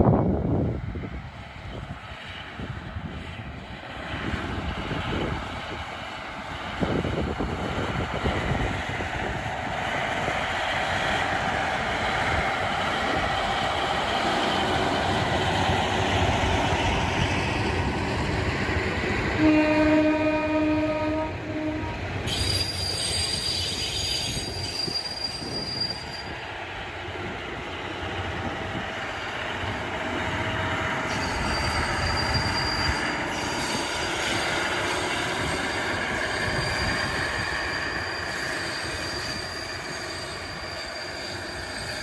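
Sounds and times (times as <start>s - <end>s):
diesel railcar engines passing: 0.0s - 42.0s.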